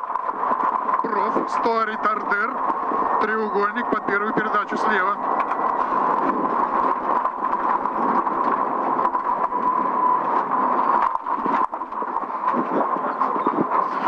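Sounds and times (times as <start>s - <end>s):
gravel rattling against underbody: 0.0s - 14.0s.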